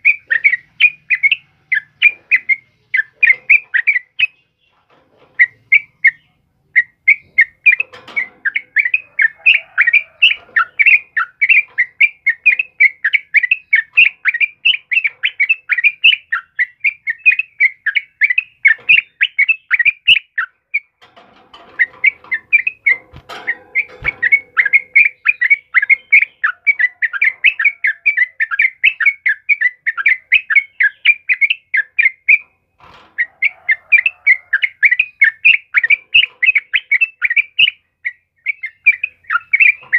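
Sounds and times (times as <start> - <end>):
bird chirping rapidly: 0.0 - 21.0, 21.6 - 32.6, 33.2 - 39.9.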